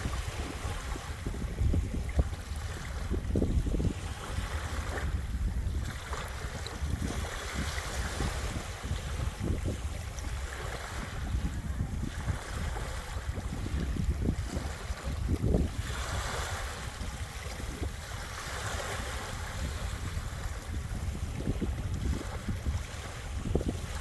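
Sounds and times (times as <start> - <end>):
small waves lapping on a beach: 0.0 - 24.0
wind buffeting the microphone: 0.0 - 24.0.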